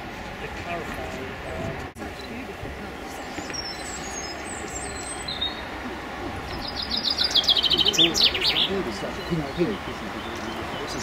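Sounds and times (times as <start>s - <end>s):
songbird singing: 1.0s - 11.0s.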